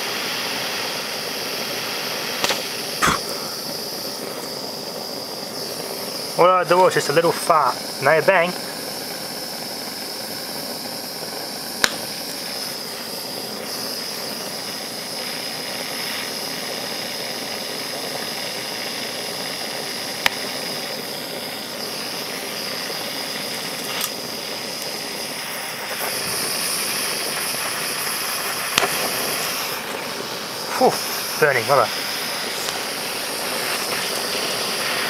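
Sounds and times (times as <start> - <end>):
blowtorch hissing with high whistle: 0.0 - 35.0.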